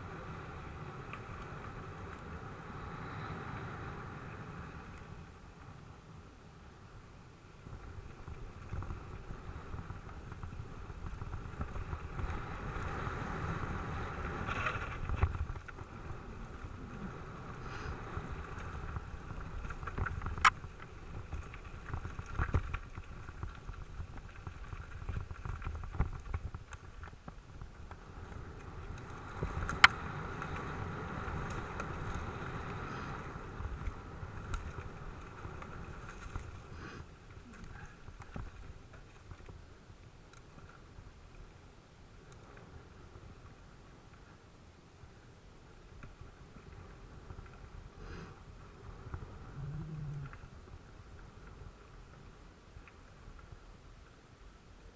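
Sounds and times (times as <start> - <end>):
bike tyre rumble: 0.0 - 54.9
wind noise: 0.0 - 54.9.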